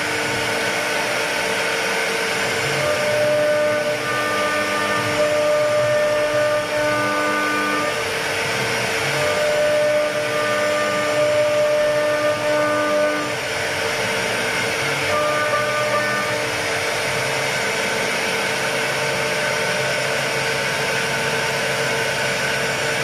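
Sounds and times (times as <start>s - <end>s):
router spindle cutting wood: 0.0s - 23.0s.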